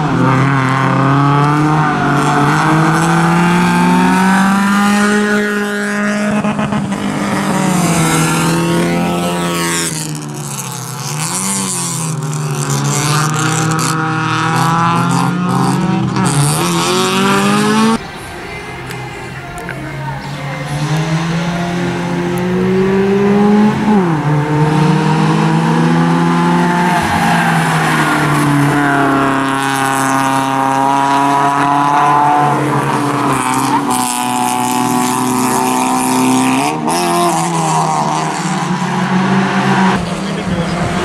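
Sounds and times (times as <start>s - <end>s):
race car engines running hard: 0.0s - 41.0s.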